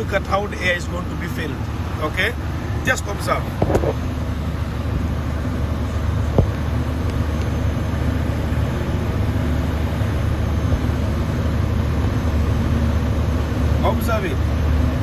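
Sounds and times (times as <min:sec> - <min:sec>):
air system building pressure: 0:00.0 - 0:15.0
diesel truck engine idling: 0:00.0 - 0:15.0.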